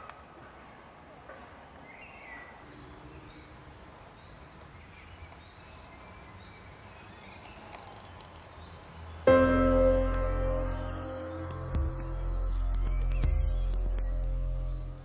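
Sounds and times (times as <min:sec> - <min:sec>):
birds chirping: 0:01.7 - 0:15.0.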